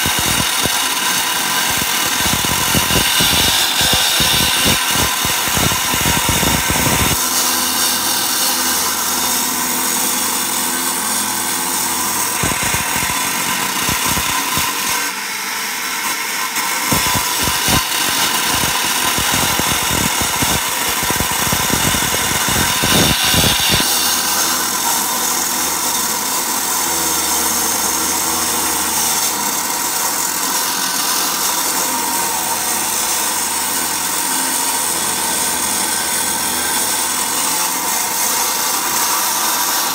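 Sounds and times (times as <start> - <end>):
cut-off saw grinding concrete: 0.0 - 39.9.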